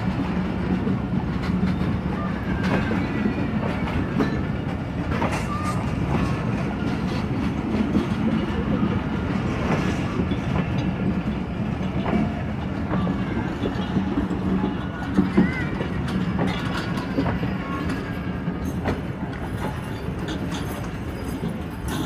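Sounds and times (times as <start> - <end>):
train coaches rumbling past: 0.0 - 22.0
wheels clicking over rail joints: 0.0 - 22.0.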